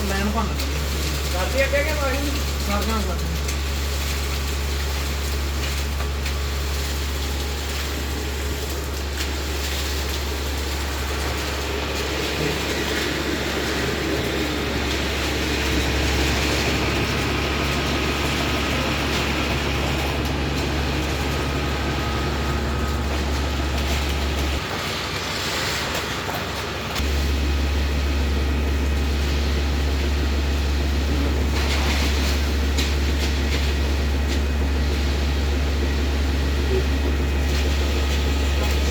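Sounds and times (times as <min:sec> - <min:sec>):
heavy machinery rumbling: 0:00.0 - 0:38.9.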